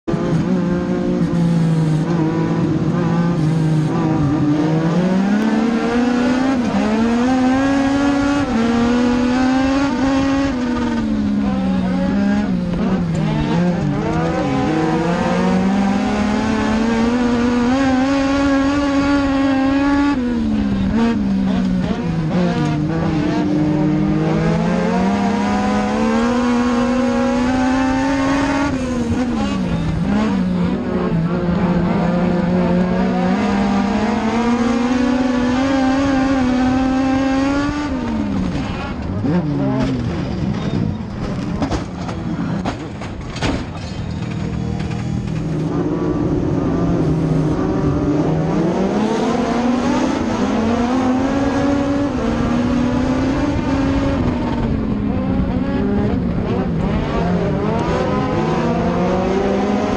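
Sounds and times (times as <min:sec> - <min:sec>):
other car engines nearby: 0:00.0 - 0:59.9
race car engine under load: 0:00.0 - 0:59.9.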